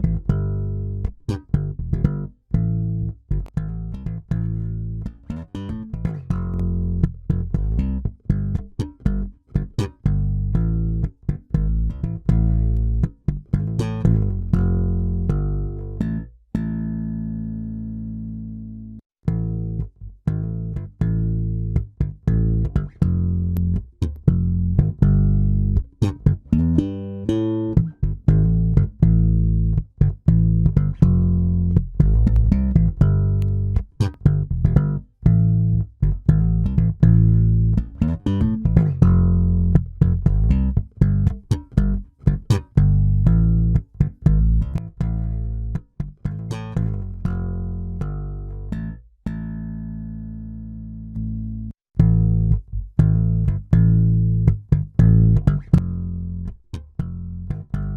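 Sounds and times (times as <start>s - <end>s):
electric bass guitar riff: 0.0s - 57.9s.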